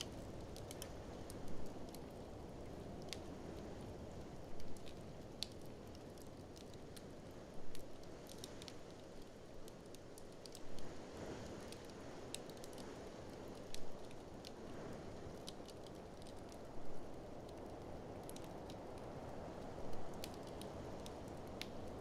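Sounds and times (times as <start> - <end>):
wood fire crackling and snapping: 0.0 - 22.0.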